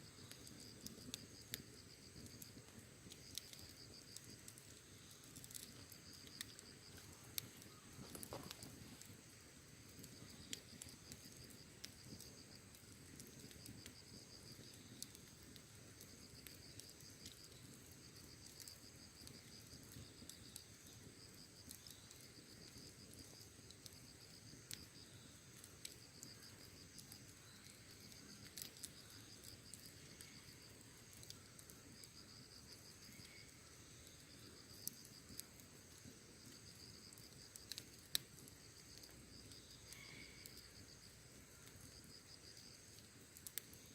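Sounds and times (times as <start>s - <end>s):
campfire crackling and popping: 0.0s - 43.9s
crickets chirping: 0.0s - 43.9s.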